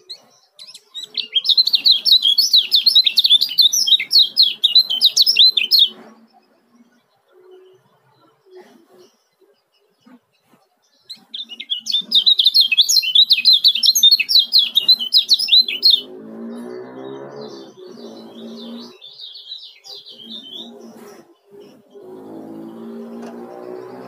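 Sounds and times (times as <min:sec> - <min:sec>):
bird chattering song: 0:00.0 - 0:24.0.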